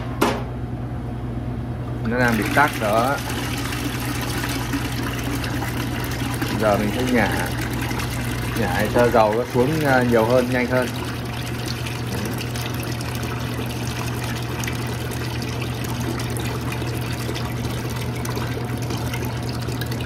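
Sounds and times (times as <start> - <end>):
oil pouring into a bucket: 2.1 - 20.0.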